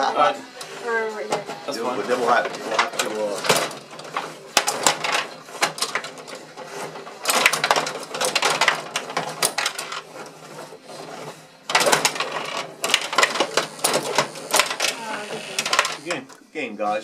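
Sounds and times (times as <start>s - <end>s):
table hockey rods clattering: 0.6s - 16.4s.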